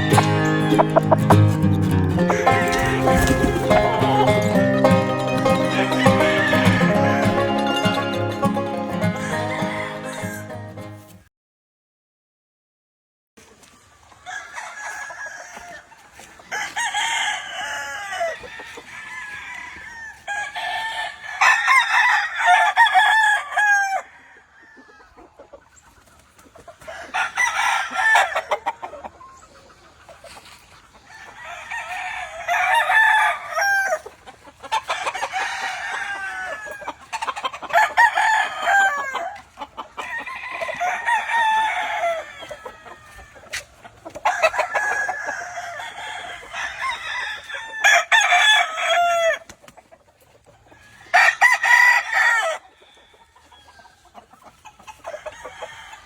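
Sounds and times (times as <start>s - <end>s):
roosters crowing: 0.0s - 10.7s, 14.2s - 25.4s, 26.6s - 29.4s, 30.3s - 49.6s, 50.6s - 56.0s.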